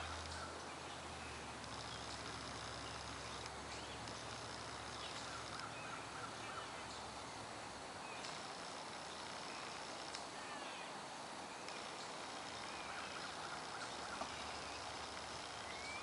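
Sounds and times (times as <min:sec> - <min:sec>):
birds chirping and trilling: 0:00.0 - 0:07.2, 0:08.0 - 0:16.0
steady background hiss: 0:00.0 - 0:16.0.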